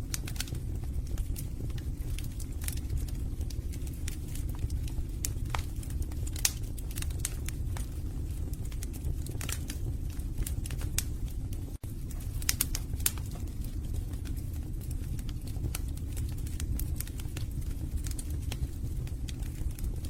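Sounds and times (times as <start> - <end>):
flame rushing: 0.0 - 20.0
logs crackling and popping: 0.0 - 20.0.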